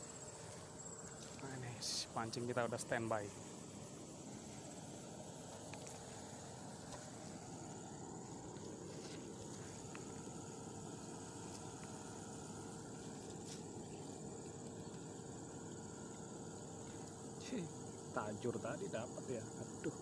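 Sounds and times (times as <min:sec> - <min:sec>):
low hum: 0:00.0 - 0:18.4
insect trill: 0:00.0 - 0:20.0.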